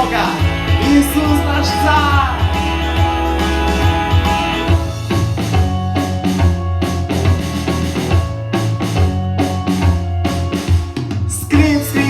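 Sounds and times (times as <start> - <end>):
drum kit steady beat: 0.0 - 12.0
upbeat pop-rock instrumental: 0.0 - 12.0.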